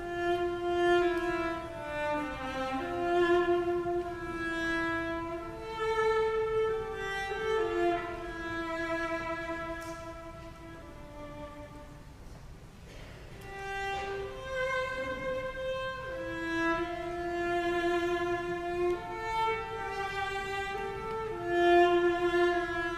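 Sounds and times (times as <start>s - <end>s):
cello playing slow melody: 0.0s - 12.2s, 13.3s - 22.9s.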